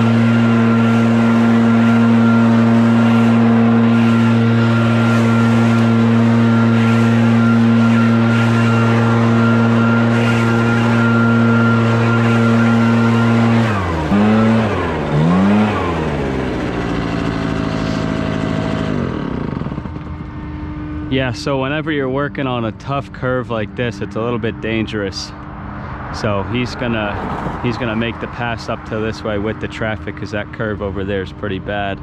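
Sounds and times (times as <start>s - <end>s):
blower air rushing: 0.0s - 22.7s, 24.3s - 30.2s
leaf blower engine running: 0.0s - 32.0s.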